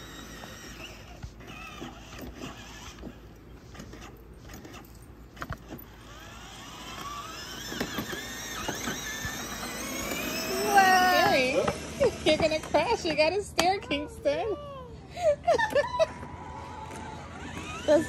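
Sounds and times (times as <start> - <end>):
toy car electric motor whirring: 0.0 - 13.4, 15.6 - 18.0.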